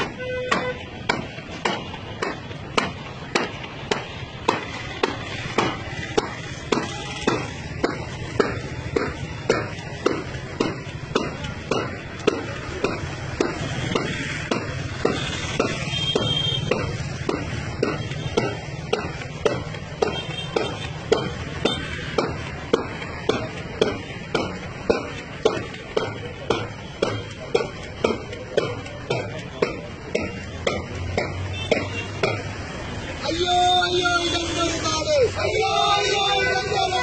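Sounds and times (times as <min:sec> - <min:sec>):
steady percussive beat: 0:00.0 - 0:37.0.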